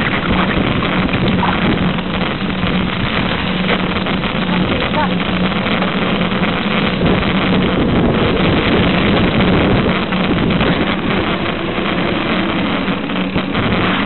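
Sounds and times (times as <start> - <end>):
bike tyres rumbling on gravel: 0.0 - 14.0
wind rushing over microphone: 0.0 - 14.0.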